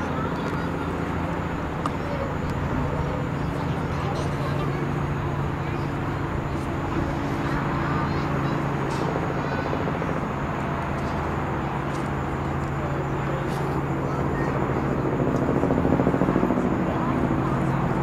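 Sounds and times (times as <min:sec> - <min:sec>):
aircraft engines droning: 0:00.0 - 0:18.0.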